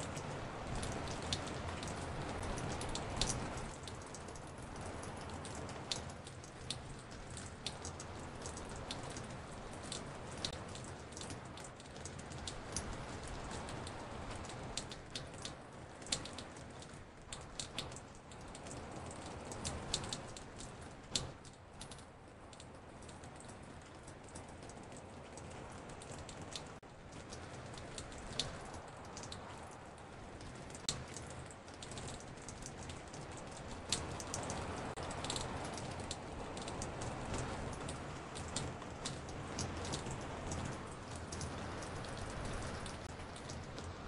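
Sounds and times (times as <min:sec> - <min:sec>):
raindrops dripping onto porch: 0:00.0 - 0:44.0
steady rain hiss: 0:00.0 - 0:44.0.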